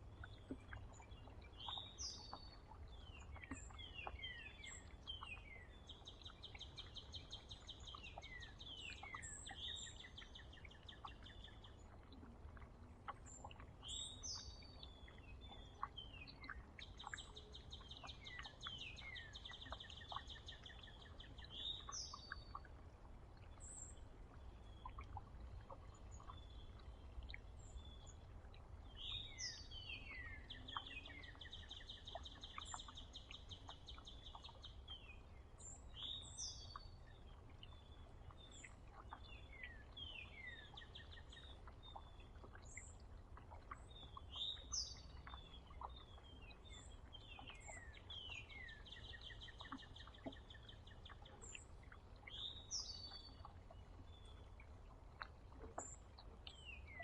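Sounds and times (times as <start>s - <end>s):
faint chirps and ticks: 0.0s - 57.0s
songbird singing: 0.0s - 57.0s.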